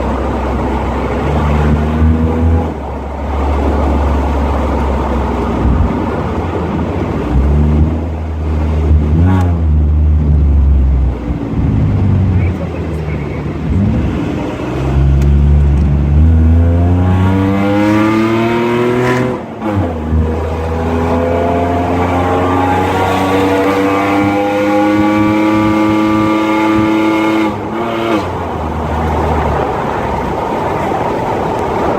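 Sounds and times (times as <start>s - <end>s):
car engine accelerating: 0.0s - 31.9s.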